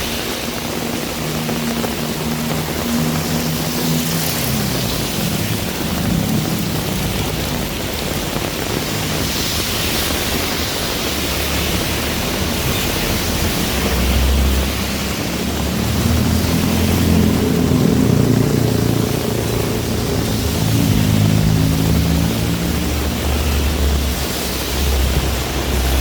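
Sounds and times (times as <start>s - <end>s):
heavy rain falling: 0.0s - 26.0s
vehicle engine humming: 0.0s - 26.0s.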